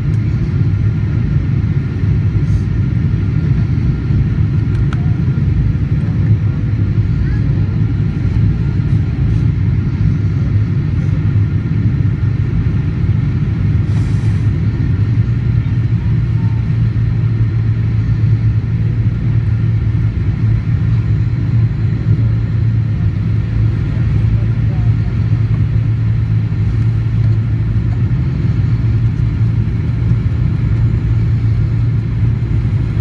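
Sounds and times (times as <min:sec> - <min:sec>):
airplane cabin engine rumble: 0:00.0 - 0:33.0.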